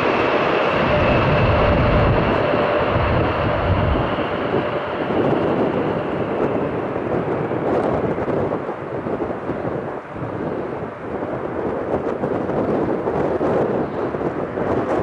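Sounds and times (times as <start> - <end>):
faint jet whine: 0.0 - 15.0
jet engines rumbling: 0.0 - 15.0.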